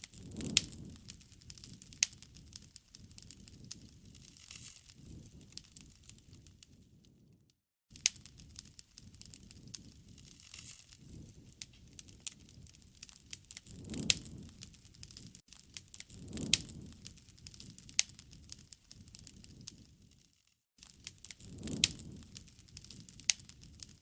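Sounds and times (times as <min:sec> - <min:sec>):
burning wood popping and snapping: 0:00.0 - 0:06.8, 0:07.9 - 0:20.1, 0:20.8 - 0:24.0
rustle of flames: 0:00.0 - 0:24.0.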